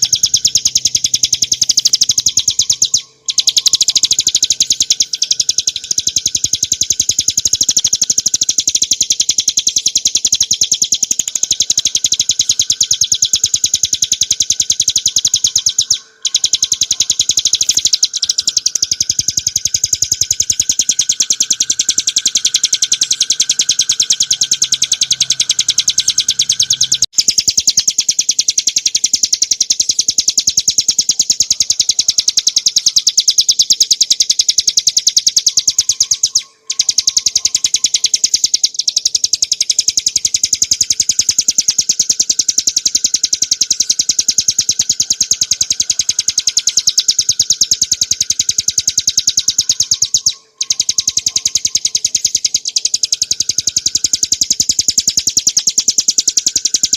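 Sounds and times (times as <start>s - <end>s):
bird singing rapid trill: 0.0s - 56.9s.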